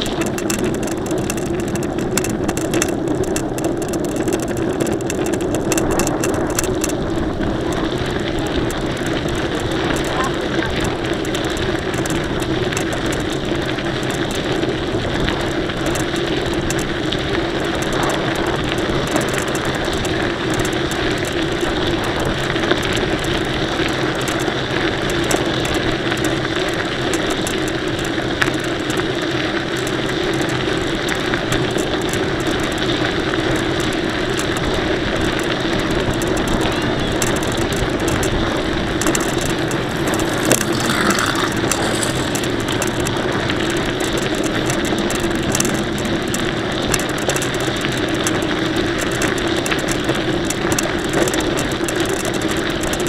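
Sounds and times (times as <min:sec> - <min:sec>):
bike mechanism rattling clicks: 0:00.0 - 0:53.0
bike tyres rolling: 0:00.0 - 0:53.0.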